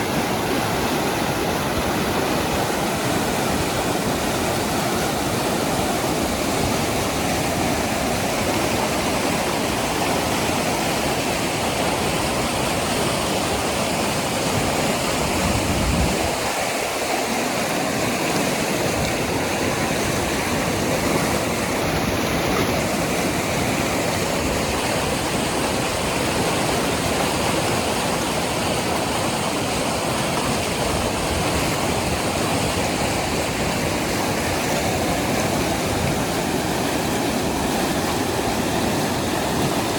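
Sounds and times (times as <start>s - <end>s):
river rushing over its bed: 0.0s - 39.9s.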